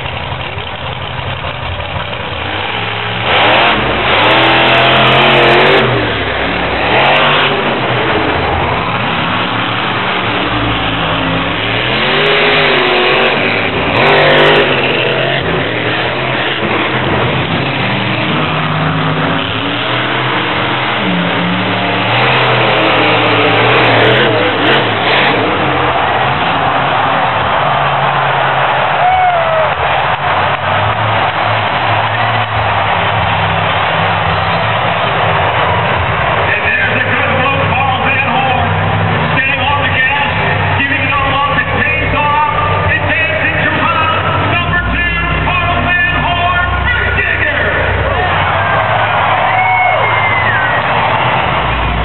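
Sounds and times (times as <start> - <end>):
truck engines revving hard: 0.0 - 52.0.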